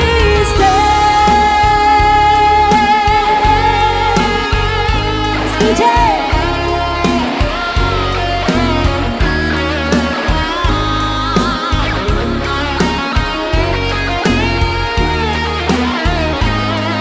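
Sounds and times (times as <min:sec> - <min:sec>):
bass guitar: 0:00.0 - 0:17.0
lead guitar bending notes: 0:00.0 - 0:17.0
steady drum beat: 0:00.0 - 0:17.0.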